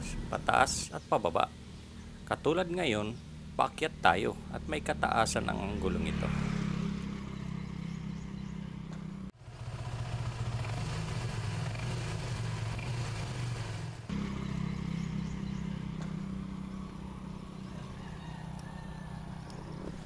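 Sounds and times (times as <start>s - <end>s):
motorcycle engine idling: 1.5s - 19.8s.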